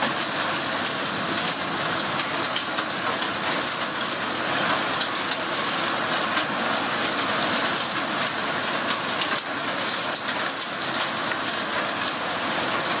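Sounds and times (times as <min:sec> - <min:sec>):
hail ticking on surfaces: 0:00.0 - 0:13.0
heavy rain hiss: 0:00.0 - 0:13.0.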